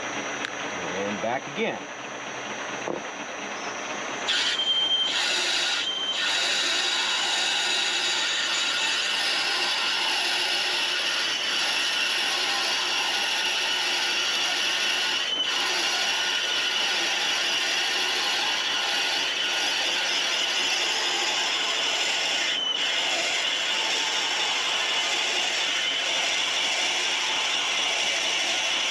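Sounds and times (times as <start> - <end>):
high-pitched cutting whine: 0.0 - 28.9
lathe running: 0.0 - 28.9.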